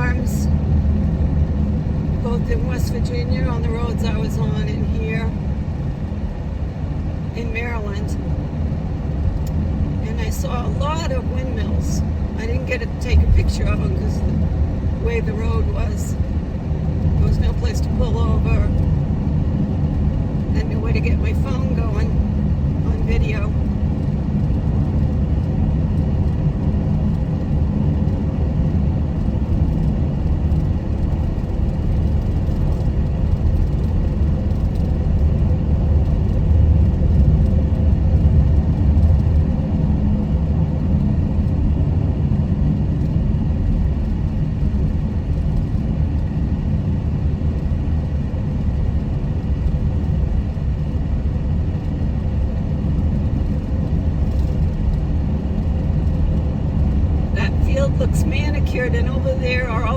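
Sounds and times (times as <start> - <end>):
engine and tyre rumble inside car: 0.0 - 59.9.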